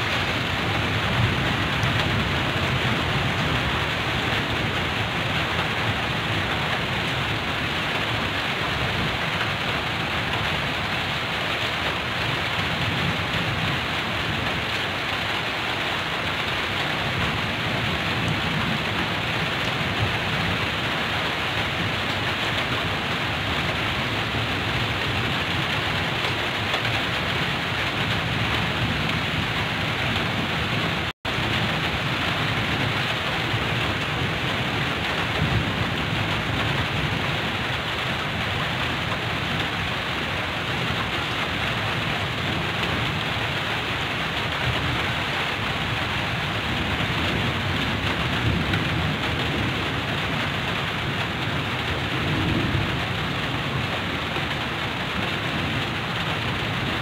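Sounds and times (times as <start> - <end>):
heavy rain on a tin roof: 0.0 - 57.0
low thunder rumbling: 0.0 - 57.0.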